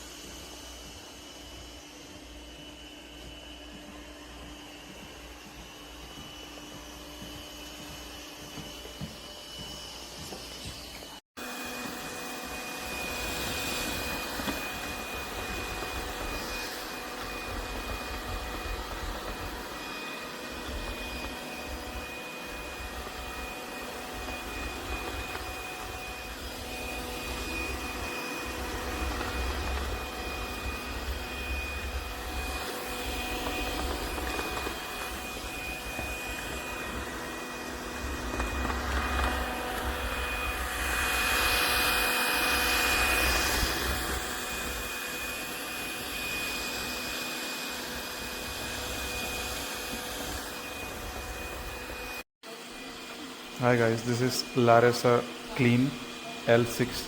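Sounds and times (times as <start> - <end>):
robot vacuum motor whir: 0.0 - 57.0.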